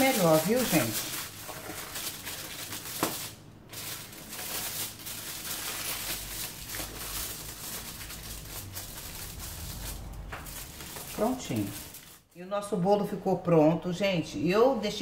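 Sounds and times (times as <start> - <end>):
aluminium foil crinkling: 0.0 - 12.5.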